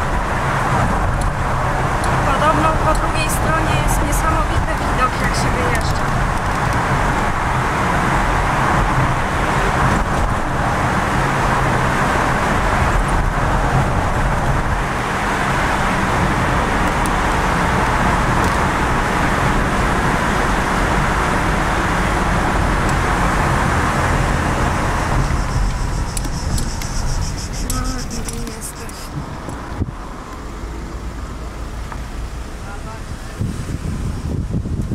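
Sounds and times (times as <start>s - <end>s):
car engine and road noise: 0.0s - 34.9s.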